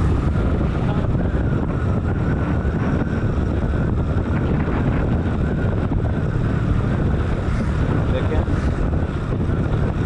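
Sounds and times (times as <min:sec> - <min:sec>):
motorcycle engine running: 0:00.0 - 0:10.0
road noise: 0:00.0 - 0:10.0
wind buffeting microphone: 0:00.0 - 0:10.0.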